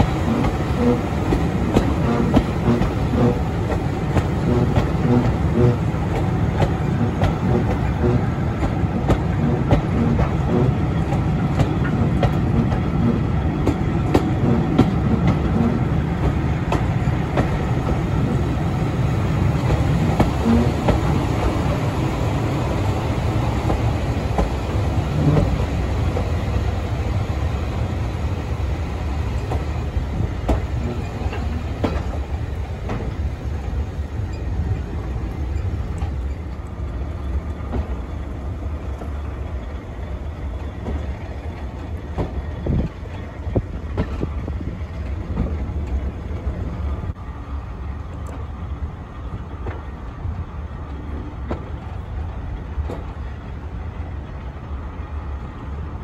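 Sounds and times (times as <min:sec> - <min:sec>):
train wheels clickety-clack on rails: 0:00.0 - 0:56.0.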